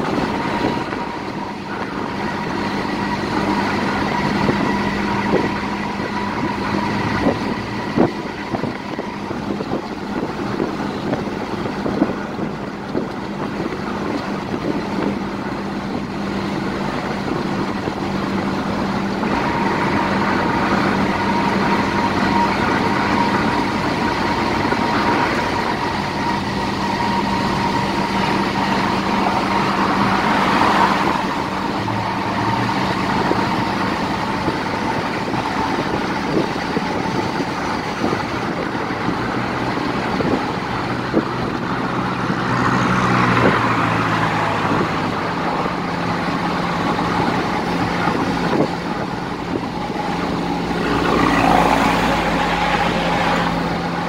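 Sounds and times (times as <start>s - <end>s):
car engine hum: 0.0s - 54.0s
tyre and road noise: 0.0s - 54.0s.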